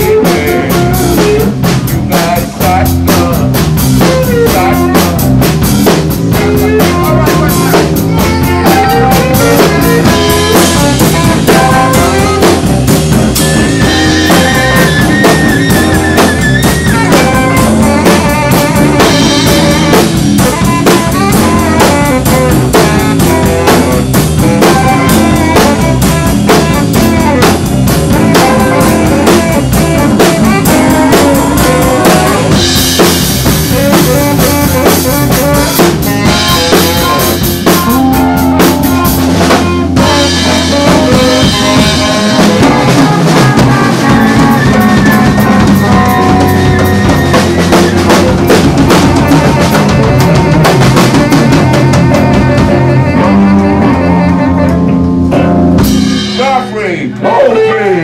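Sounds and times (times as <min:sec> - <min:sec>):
tenor saxophone: 0:00.0 - 0:56.4
drum kit: 0:00.0 - 0:57.3
electric guitar: 0:00.0 - 0:57.4.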